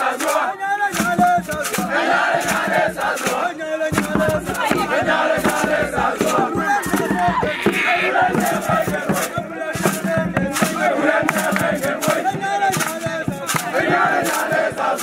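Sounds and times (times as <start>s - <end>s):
crowd chanting and shouting: 0.0s - 15.0s
sharp claps or knocks: 0.0s - 15.0s.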